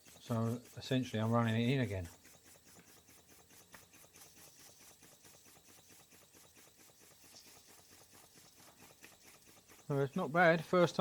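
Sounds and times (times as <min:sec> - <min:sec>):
model steam engine ticking: 0:00.0 - 0:11.0.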